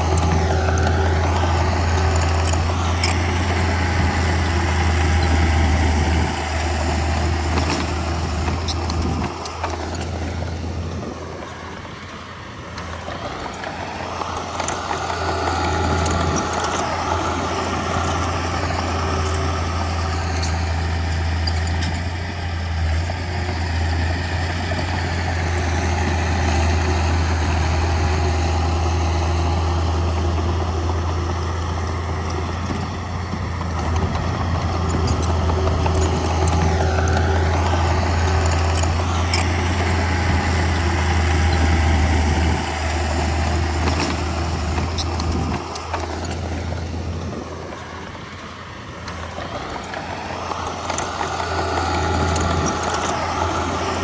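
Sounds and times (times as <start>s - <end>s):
diesel earthmoving machinery drone: 0.0s - 54.0s.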